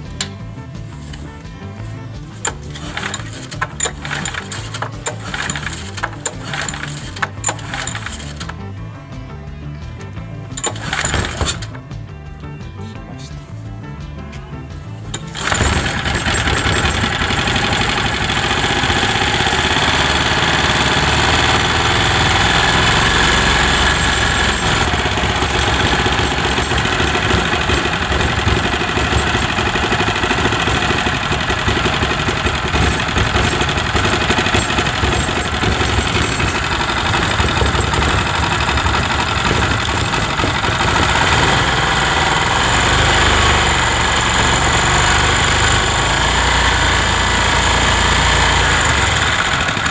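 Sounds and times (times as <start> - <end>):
single-cylinder petrol engine running: 0.0 - 9.2, 10.1 - 12.6, 14.7 - 49.9.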